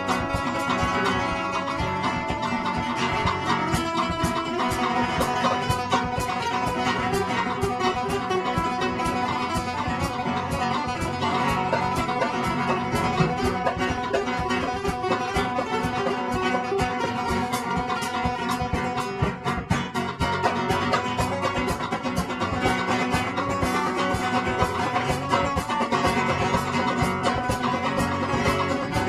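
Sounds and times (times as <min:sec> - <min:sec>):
acoustic guitars strumming: 0:00.0 - 0:29.0
drum kit playing: 0:00.0 - 0:29.0.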